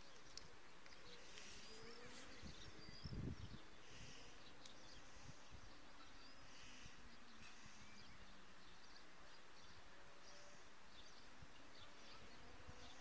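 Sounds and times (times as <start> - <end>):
micro drone buzzing: 1.1 - 13.0.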